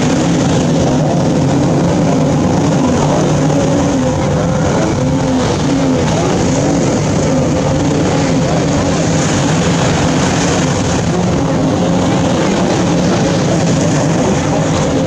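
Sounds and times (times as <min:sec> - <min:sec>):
outboard engines droning: 0:00.0 - 0:15.0.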